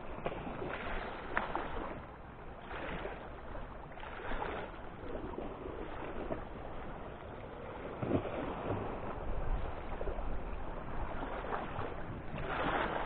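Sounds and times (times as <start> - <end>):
sea water lapping against rocks: 0.0 - 13.0
wind on microphone: 0.0 - 13.0.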